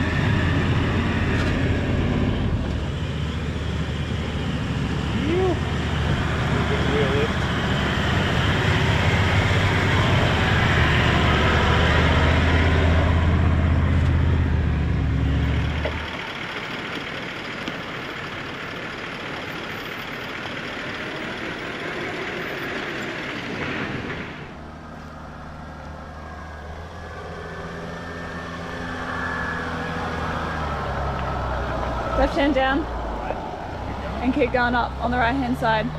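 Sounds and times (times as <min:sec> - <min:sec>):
approaching vehicle engine: 0:00.0 - 0:35.9
diesel engine running: 0:00.0 - 0:35.9
wind and tyre noise: 0:00.0 - 0:35.9.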